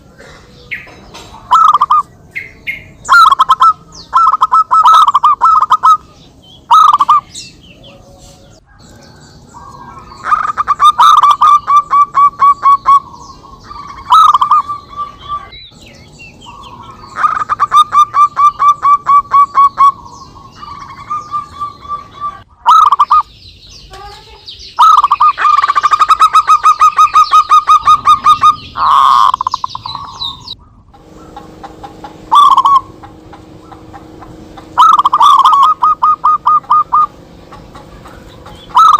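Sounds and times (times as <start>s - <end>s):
doves cooing: 0.0s - 23.3s, 24.8s - 38.9s.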